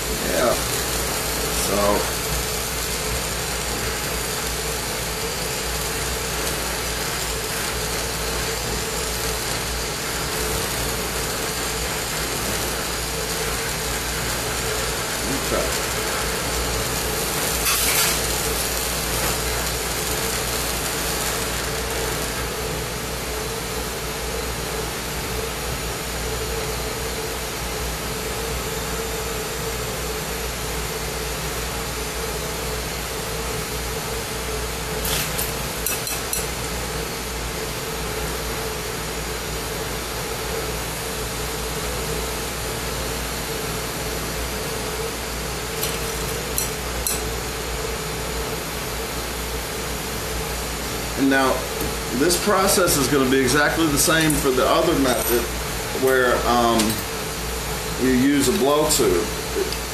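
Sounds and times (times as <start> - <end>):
steady hum: 0.0 - 59.9
torch flame hissing: 0.0 - 59.9.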